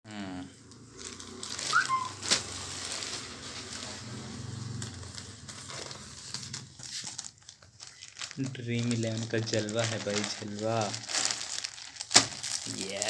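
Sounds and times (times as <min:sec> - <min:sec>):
plastic packaging crinkling: 0:00.6 - 0:13.0.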